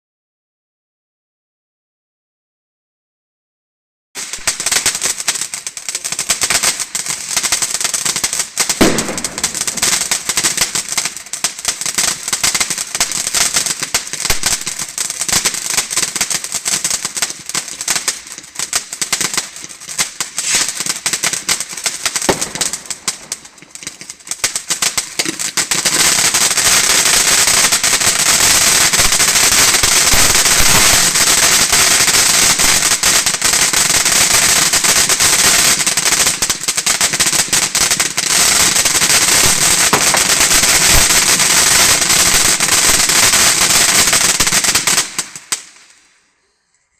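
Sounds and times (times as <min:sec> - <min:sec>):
firework fountain crackling: 0:04.2 - 0:46.4.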